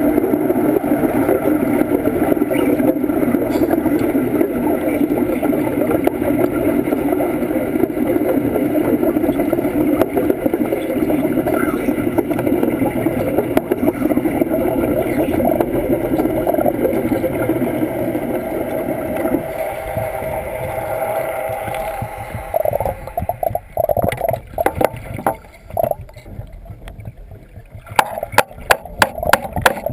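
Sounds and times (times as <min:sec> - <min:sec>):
underwater welding bubbling crackle: 0:00.0 - 0:29.9.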